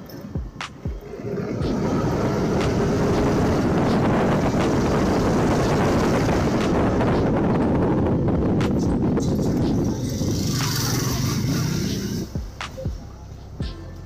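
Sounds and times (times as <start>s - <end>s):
scooter engine running: 0.4s - 13.0s
wind rushing over microphone: 0.8s - 12.6s.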